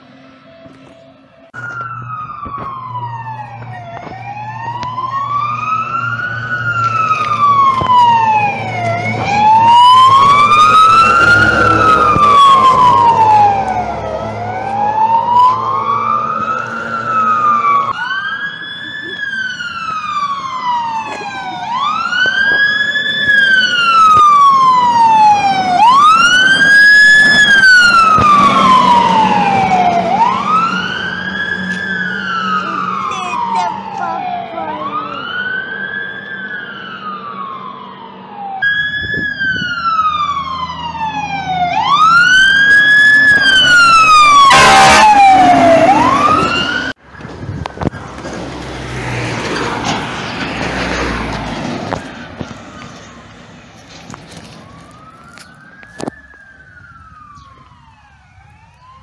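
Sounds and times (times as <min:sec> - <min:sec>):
fire engine siren wailing: 0:00.0 - 0:59.0
street traffic noise: 0:00.0 - 0:59.0.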